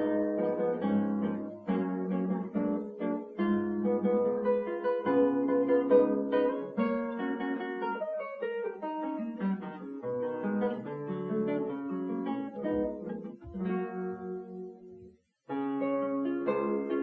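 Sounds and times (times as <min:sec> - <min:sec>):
classical guitar plucked notes: 0:00.0 - 0:17.0.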